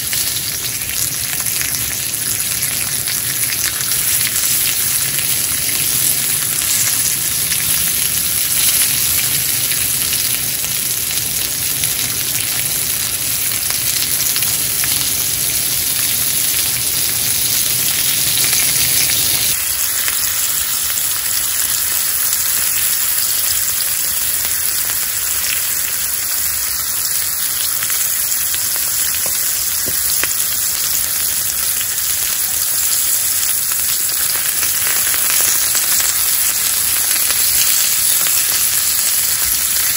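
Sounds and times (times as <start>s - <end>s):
fish sizzling on a griddle: 0.0s - 39.9s.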